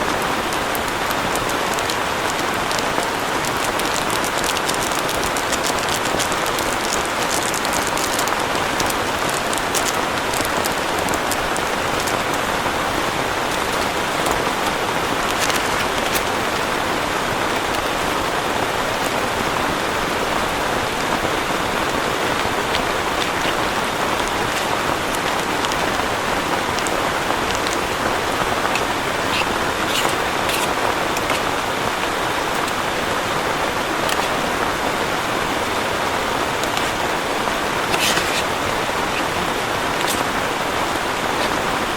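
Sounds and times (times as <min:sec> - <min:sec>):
heavy rain falling: 0:00.0 - 0:41.9
sharp raindrops striking nearby: 0:00.0 - 0:41.9.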